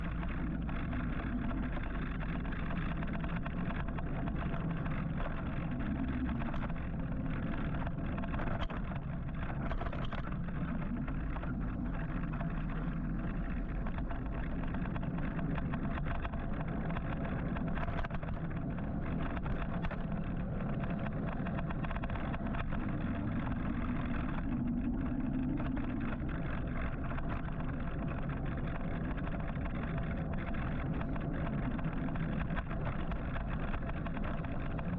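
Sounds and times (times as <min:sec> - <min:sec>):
road and traffic noise: 0:00.0 - 0:34.9.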